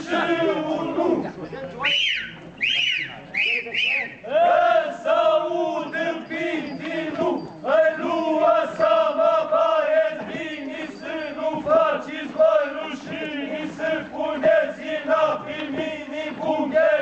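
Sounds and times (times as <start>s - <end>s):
men chanting in unison: 0.0s - 1.3s, 4.3s - 17.0s.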